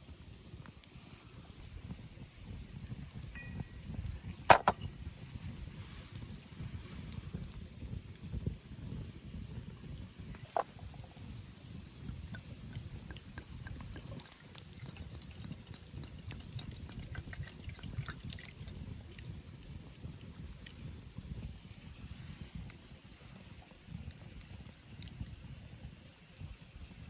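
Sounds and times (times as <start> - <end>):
fire crackling and popping: 0.0 - 27.0
low rumble of flame: 0.0 - 27.0
wind: 0.0 - 27.0.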